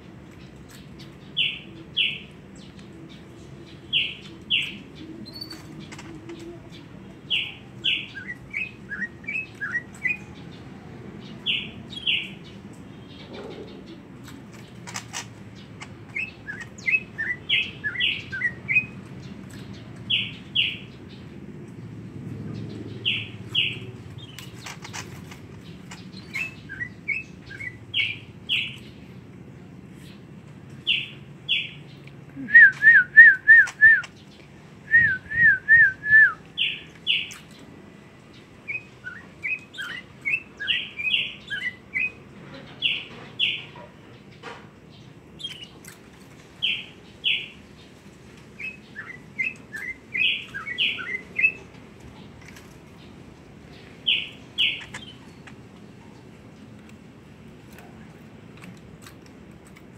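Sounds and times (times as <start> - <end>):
songbird chirping: 0.0 - 59.8.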